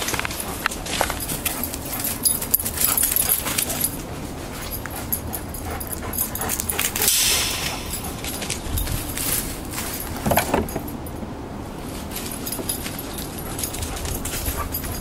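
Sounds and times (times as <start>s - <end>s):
continuous rustling hiss: 0.0s - 15.0s.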